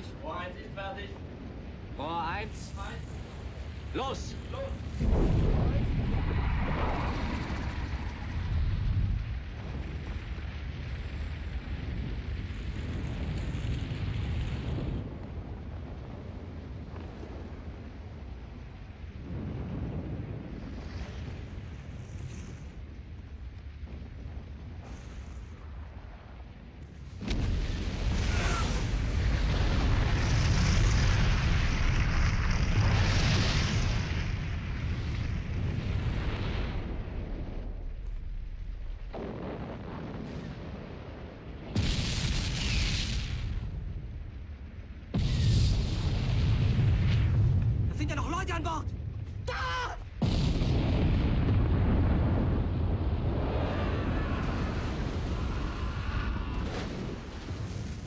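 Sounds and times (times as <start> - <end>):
deep rumbling: 0.0 - 58.0.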